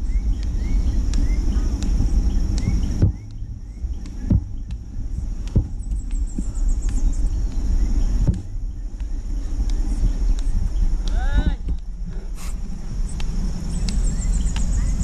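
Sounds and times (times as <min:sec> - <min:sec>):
bird chirps: 0:00.0 - 0:15.0
footsteps on paved road: 0:00.0 - 0:15.0
insects droning: 0:00.0 - 0:15.0
low microphone rumble: 0:00.0 - 0:15.0.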